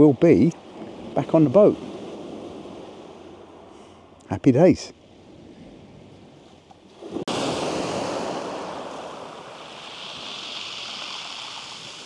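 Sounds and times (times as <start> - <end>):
sea waves breaking on beach: 0.6 - 3.9, 5.0 - 12.0.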